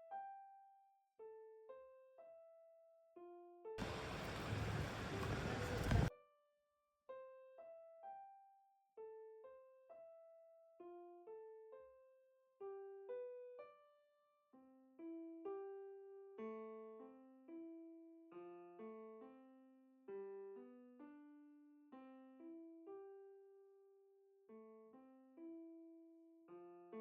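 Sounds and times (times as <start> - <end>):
gentle piano melody: 0.0 - 6.4, 7.1 - 27.0.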